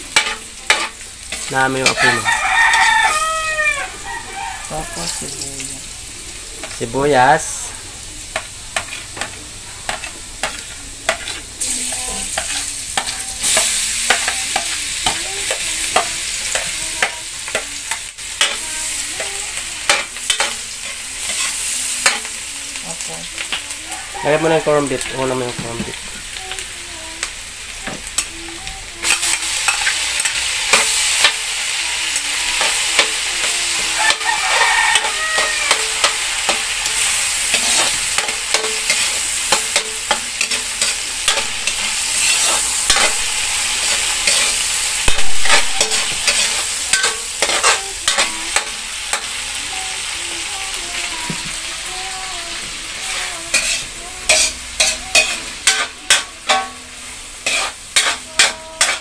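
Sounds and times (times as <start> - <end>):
meat sizzling in a wok: 0.0 - 59.0.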